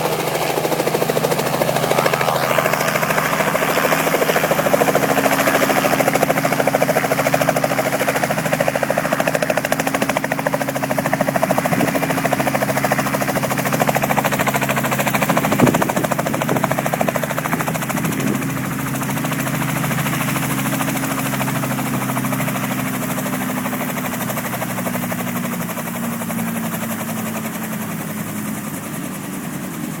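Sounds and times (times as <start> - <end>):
helicopter engine: 0.0 - 30.0
helicopter rotor chop: 0.0 - 30.0.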